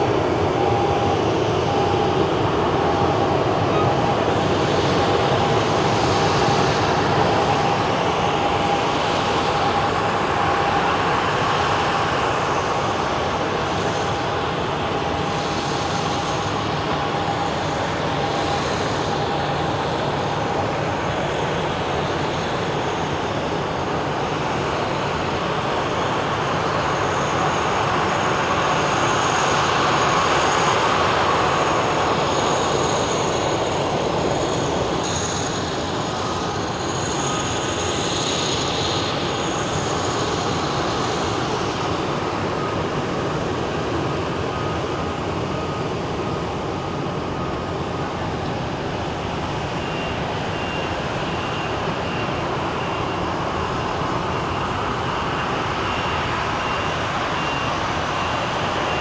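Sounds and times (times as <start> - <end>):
engine drone: 0.0 - 59.0
faint high whine: 0.0 - 59.0.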